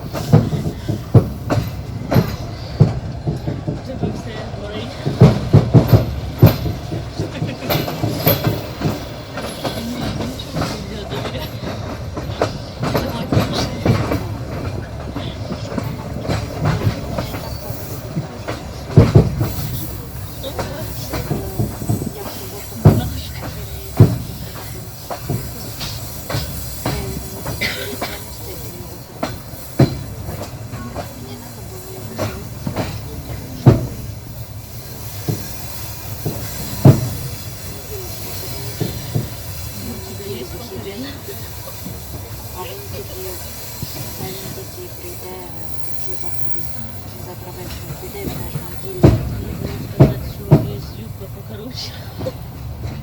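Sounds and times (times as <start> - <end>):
train wheels clattering over rail joints: 0.0 - 53.0.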